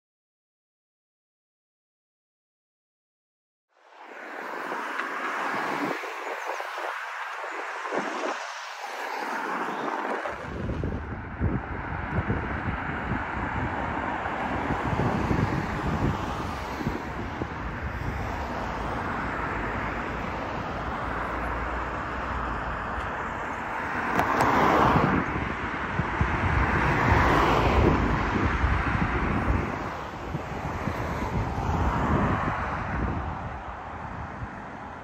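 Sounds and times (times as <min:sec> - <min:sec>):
cars passing: 0:03.7 - 0:35.0
wind rumbling on microphone: 0:03.9 - 0:35.0.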